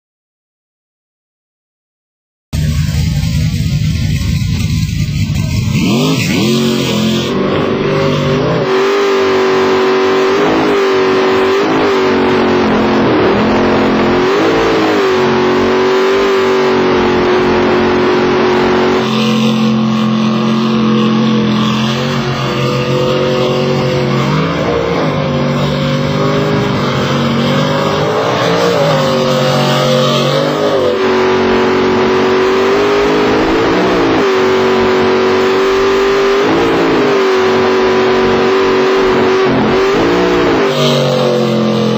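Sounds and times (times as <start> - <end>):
lower engine note: 2.6 - 41.9
racing powerboat engines revving: 2.6 - 41.9.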